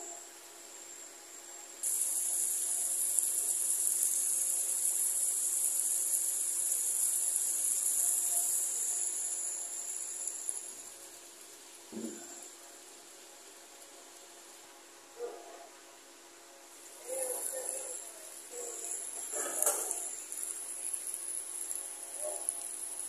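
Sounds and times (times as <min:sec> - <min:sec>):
curry sizzling in a pot: 0:00.7 - 0:15.0, 0:16.7 - 0:23.0.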